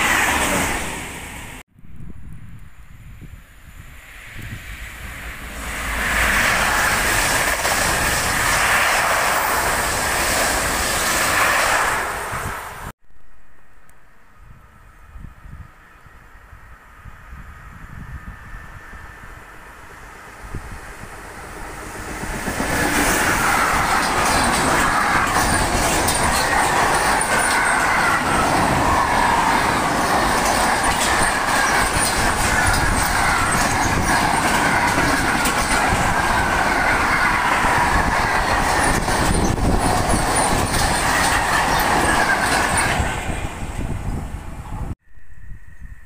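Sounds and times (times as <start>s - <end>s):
freight train passing: 0.0s - 1.6s, 3.5s - 12.9s, 14.6s - 46.0s
high squeal from train: 4.0s - 12.9s, 14.4s - 46.0s.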